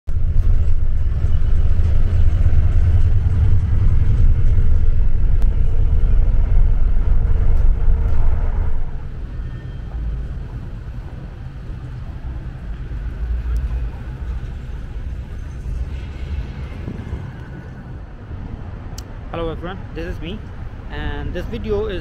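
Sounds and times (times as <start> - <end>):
bus interior rumble: 0.1 - 22.0
street traffic noise: 0.1 - 22.0.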